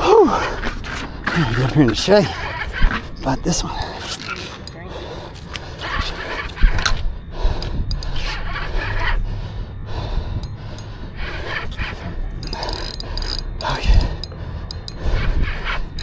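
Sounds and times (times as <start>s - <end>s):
heavy breathing: 0.0s - 16.0s.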